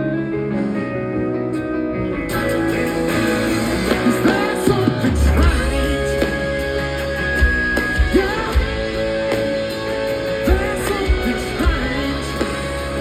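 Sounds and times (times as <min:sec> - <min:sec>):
guitar bending held notes: 0:00.0 - 0:13.0
rock music: 0:00.0 - 0:13.0.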